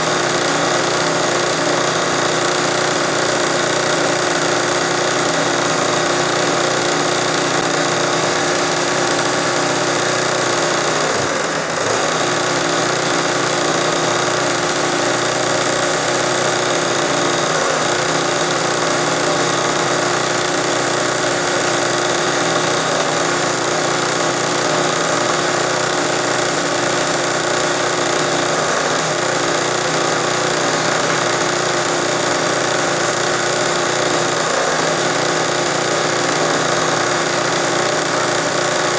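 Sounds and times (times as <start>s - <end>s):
sewing machine running fast: 0.0s - 38.9s.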